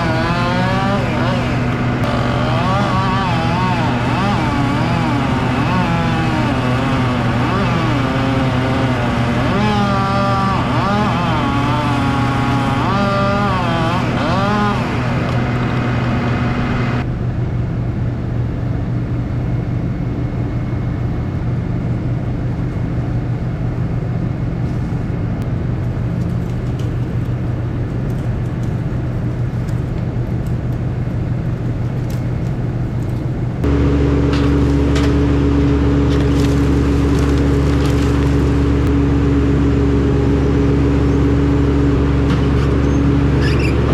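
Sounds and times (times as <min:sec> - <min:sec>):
heavy machinery engine humming: 0:00.0 - 0:43.9.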